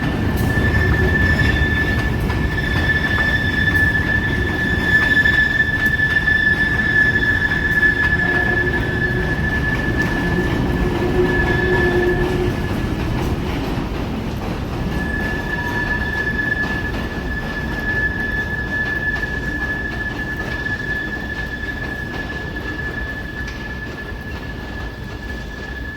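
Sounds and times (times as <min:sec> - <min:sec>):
freight train rumbling: 0:00.0 - 0:25.9
train wheel squeal: 0:00.0 - 0:25.9.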